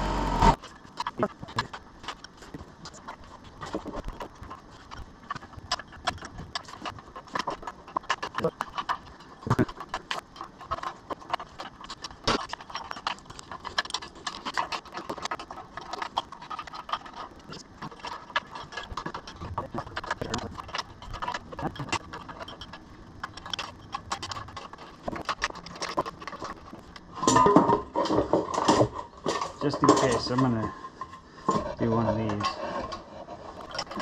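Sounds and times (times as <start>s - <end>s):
metallic clatter: 0.4s - 34.0s
wrench metallic clicks and scrapes: 0.5s - 34.0s.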